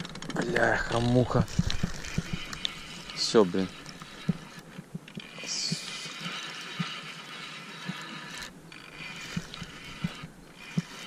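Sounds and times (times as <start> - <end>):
fishing reel cranking: 0.0 - 11.0.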